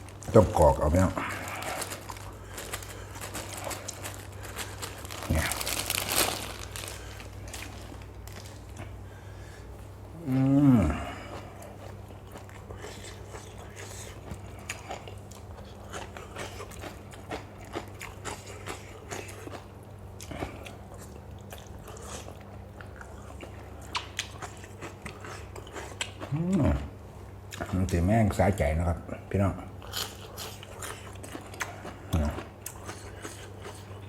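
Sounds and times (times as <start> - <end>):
person chewing crunchy food: 0.0 - 27.9, 29.8 - 34.0.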